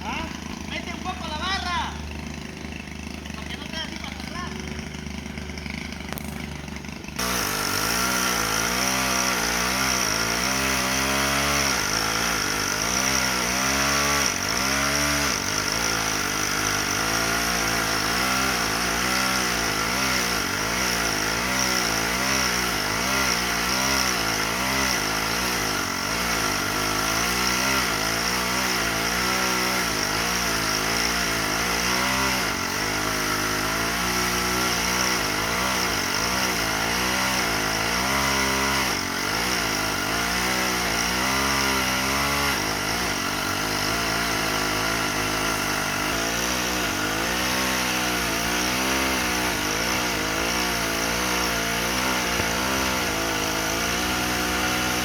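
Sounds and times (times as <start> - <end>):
machine engine revving: 0.0 - 55.0.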